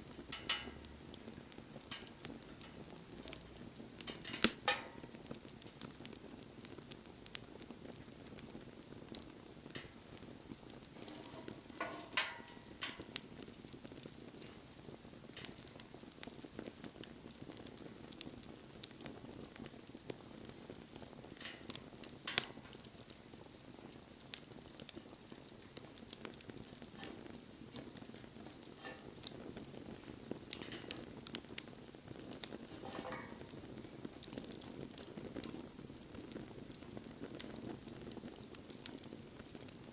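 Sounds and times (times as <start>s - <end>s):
fire crackling and popping: 0.0s - 39.9s
wood fire hissing: 0.0s - 39.9s.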